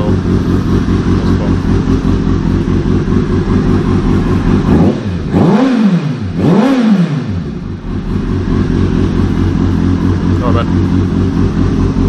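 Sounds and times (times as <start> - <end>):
motorcycle engine idling: 0.0 - 12.0
motorcycle engine revving: 0.0 - 12.0.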